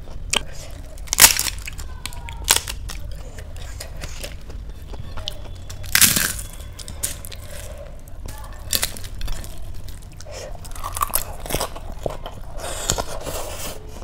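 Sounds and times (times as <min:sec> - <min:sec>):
crunching and chewing: 0:00.0 - 0:14.0.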